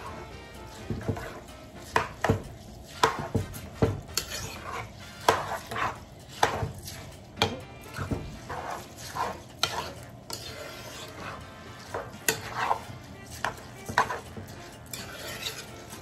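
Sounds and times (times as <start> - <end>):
metal spoon stirring rice in pot: 0.0 - 16.0
spoon scraping and clinking on pot: 0.0 - 16.0.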